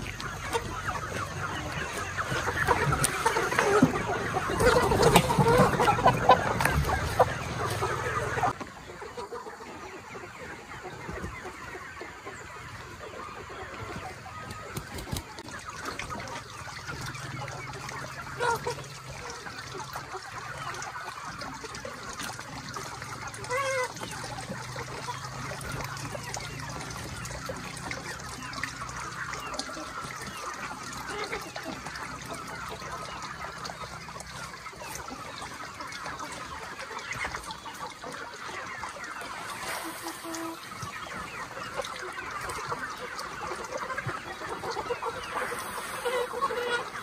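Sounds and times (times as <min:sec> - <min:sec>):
young chickens clucking: 0:00.0 - 0:47.0.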